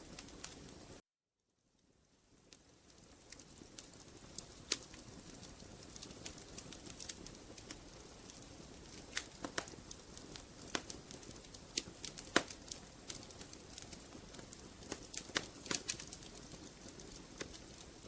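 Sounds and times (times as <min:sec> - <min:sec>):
wood fire crackling: 0:00.0 - 0:01.0, 0:01.7 - 0:18.0.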